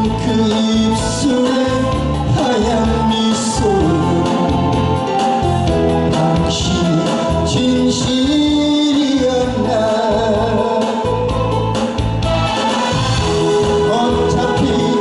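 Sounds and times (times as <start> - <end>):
man singing into microphone: 0.0 - 12.0, 13.4 - 15.0
instrumental accompaniment: 0.0 - 15.0.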